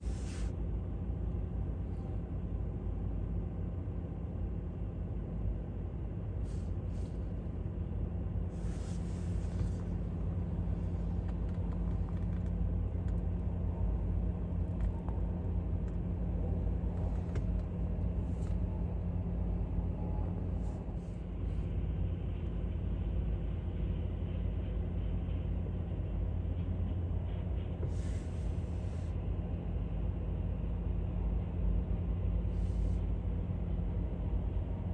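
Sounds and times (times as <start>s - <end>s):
jet engines rumbling: 0.0s - 34.9s.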